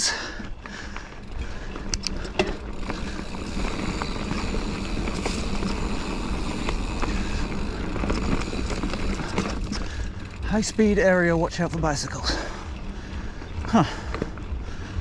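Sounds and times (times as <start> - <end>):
bike tyre and drivetrain rattle: 0.0 - 15.0.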